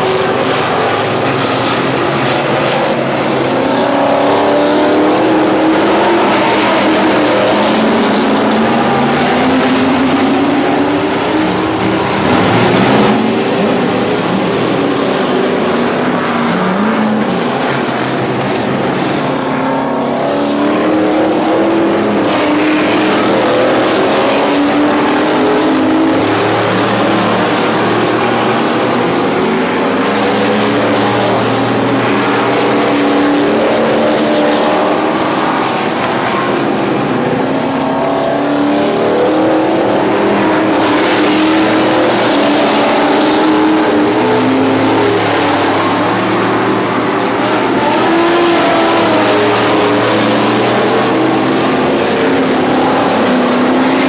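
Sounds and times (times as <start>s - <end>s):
race car engines revving: 0.0s - 54.0s.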